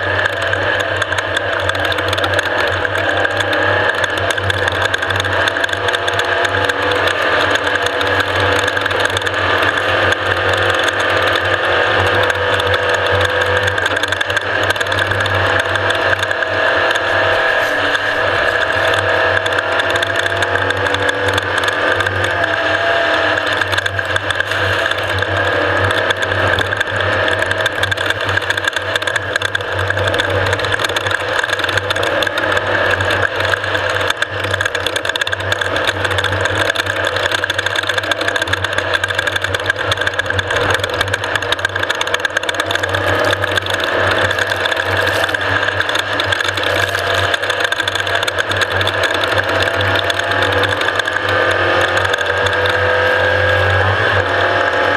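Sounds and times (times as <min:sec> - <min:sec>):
dense mechanical rattle: 0:00.0 - 0:54.9
off-road vehicle engine drone: 0:00.0 - 0:54.9.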